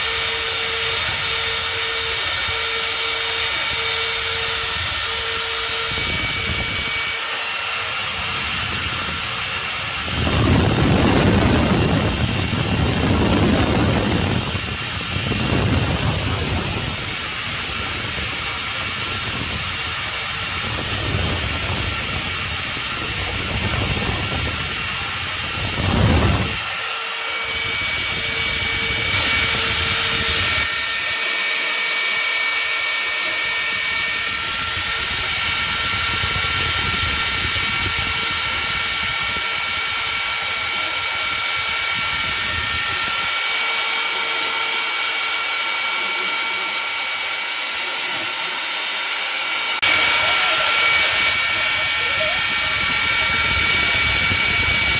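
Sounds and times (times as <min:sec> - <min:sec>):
hiss of wood cutting: 0:00.0 - 0:54.9
router spindle whine: 0:00.0 - 0:54.9.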